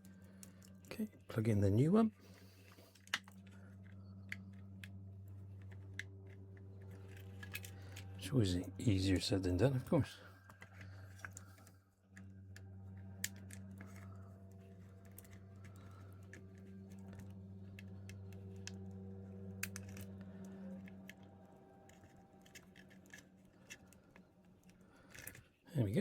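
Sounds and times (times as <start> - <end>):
steady low hum: 0.0 - 26.0
clicks of small plastic parts: 2.3 - 8.2, 10.4 - 25.5.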